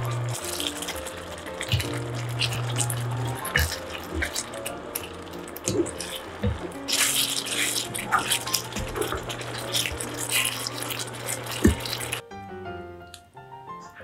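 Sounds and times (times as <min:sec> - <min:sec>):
sauce sizzling in a pan: 0:00.0 - 0:12.2
wooden spatula scraping a pan: 0:00.0 - 0:12.2
ragtime piano music: 0:00.0 - 0:14.0.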